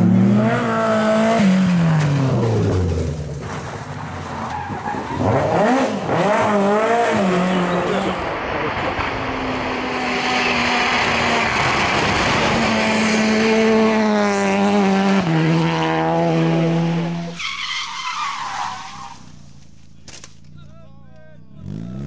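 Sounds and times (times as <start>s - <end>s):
rally car engine at high revs: 0.0s - 17.4s, 21.6s - 22.0s.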